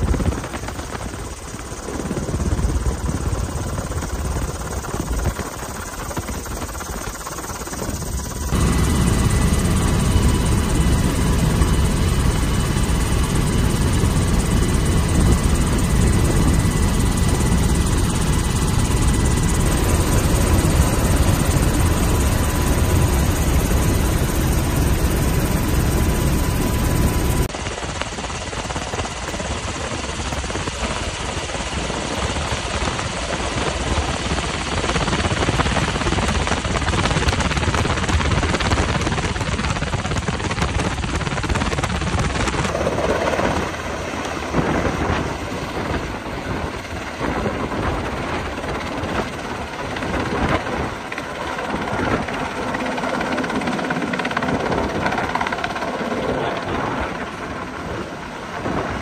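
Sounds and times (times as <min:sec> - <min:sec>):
helicopter hovering outdoors: 0:00.0 - 0:59.0
helicopter rotor and turbines: 0:00.0 - 0:59.0.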